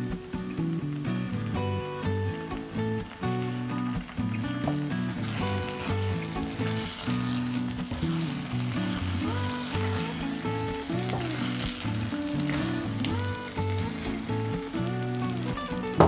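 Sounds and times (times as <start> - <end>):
background music: 0.0 - 16.0
food sizzling in a frying pan: 0.0 - 16.0.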